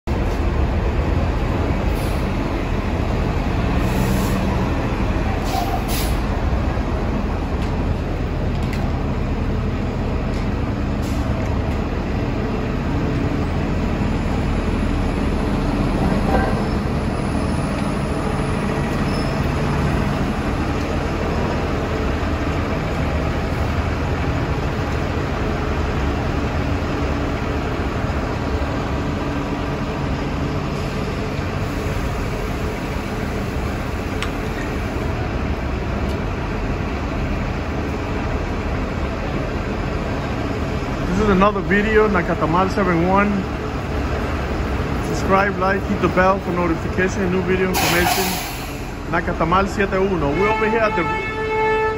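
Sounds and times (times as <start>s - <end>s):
street traffic: 0.0s - 51.9s
bus engine hum: 0.1s - 51.9s.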